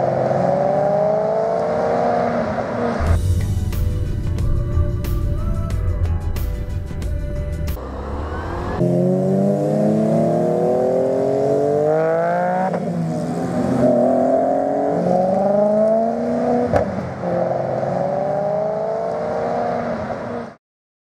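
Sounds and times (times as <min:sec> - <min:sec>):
car engine accelerating: 0:00.0 - 0:20.5.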